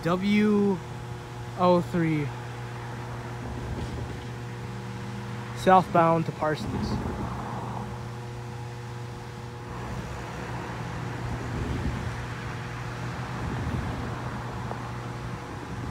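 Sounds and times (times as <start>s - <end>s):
distant diesel train rumbling: 0.8s - 15.9s.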